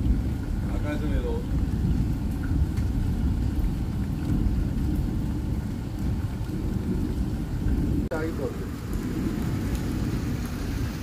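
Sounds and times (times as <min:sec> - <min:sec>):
faint raindrop ticks: 0:00.0 - 0:10.8
deep rumble: 0:00.0 - 0:11.0
heavy rain rushing: 0:00.0 - 0:11.0.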